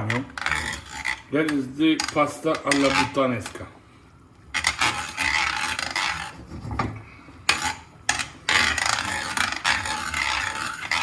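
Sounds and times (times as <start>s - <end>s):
utensil scraping a pan: 0.0s - 3.7s, 4.5s - 11.0s.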